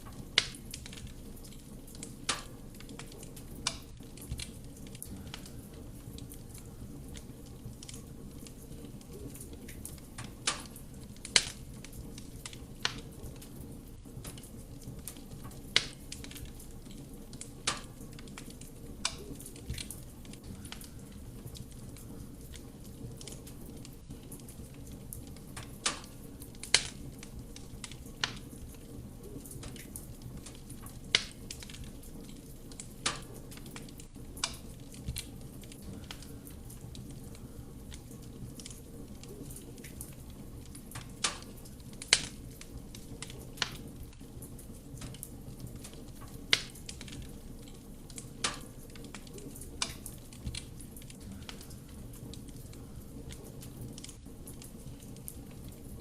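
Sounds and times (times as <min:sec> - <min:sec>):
fire rumbling: 0:00.0 - 0:56.0
logs popping and crackling: 0:00.0 - 0:56.0.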